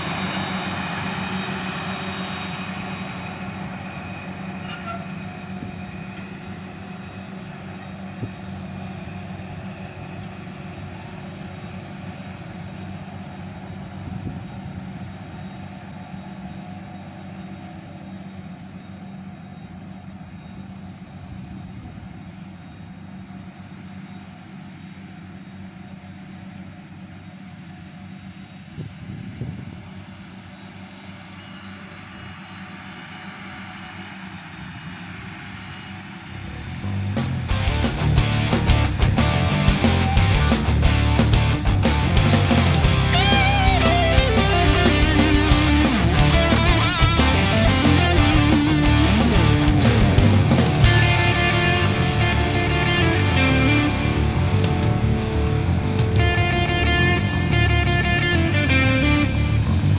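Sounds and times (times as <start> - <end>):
harvester engine and chopper running: 0.0 - 32.2, 37.2 - 59.9.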